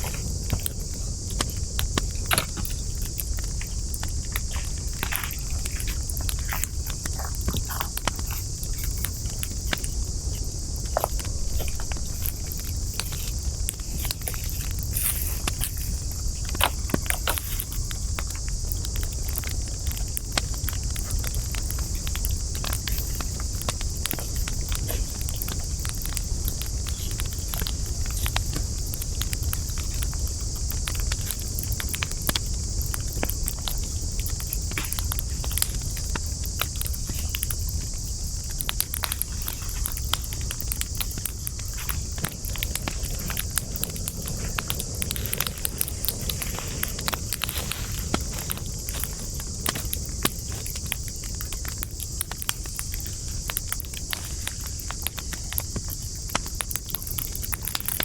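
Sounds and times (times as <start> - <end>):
campfire crackling and popping: 0.0 - 58.0
high-pitched hiss: 0.0 - 58.0
low rumble of flames: 0.0 - 58.0.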